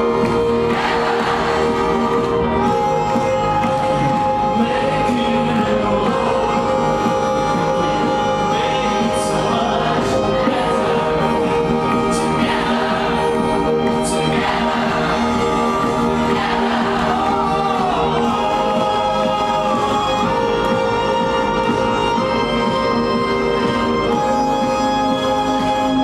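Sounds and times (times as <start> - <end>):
bass guitar: 0.0 - 26.0
live band music: 0.0 - 26.0
person singing: 0.0 - 26.0
violin: 0.0 - 26.0.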